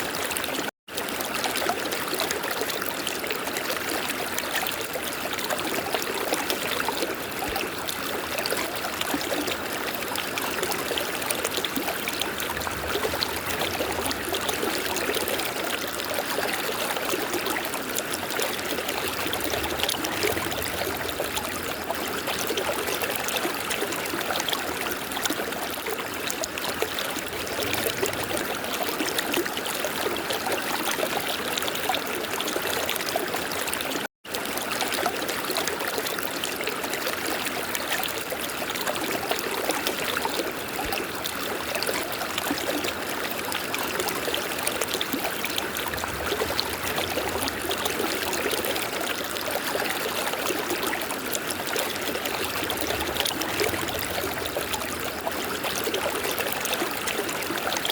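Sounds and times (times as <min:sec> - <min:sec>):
river water flowing: 0:00.0 - 0:57.9.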